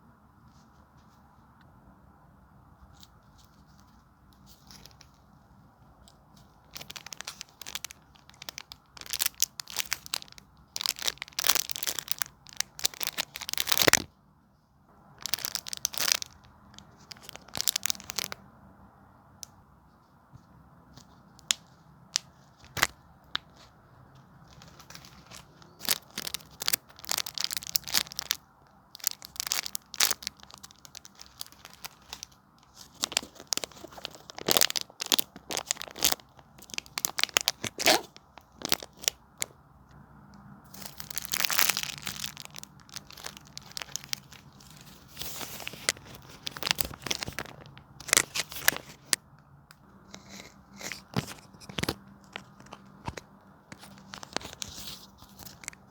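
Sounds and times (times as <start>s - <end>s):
squishies crinkling and crackling: 2.8s - 14.2s, 15.0s - 18.4s, 20.9s - 39.6s, 40.4s - 55.9s.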